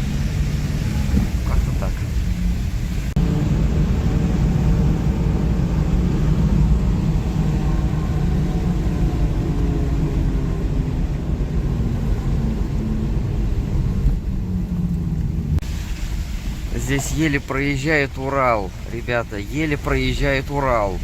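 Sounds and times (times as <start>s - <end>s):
road noise rumble: 0.0s - 21.0s
vehicle engine hum: 0.0s - 21.0s.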